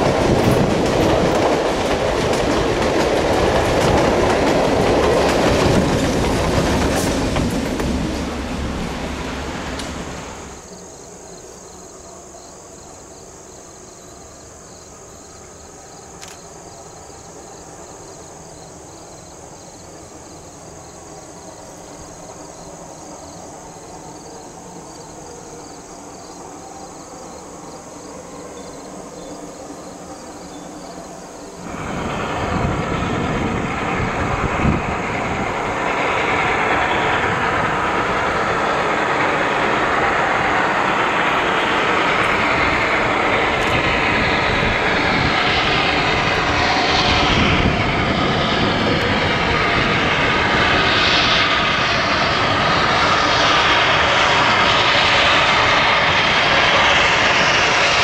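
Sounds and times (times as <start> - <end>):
passing train: 0.0 - 58.0
steam locomotive: 0.0 - 58.0.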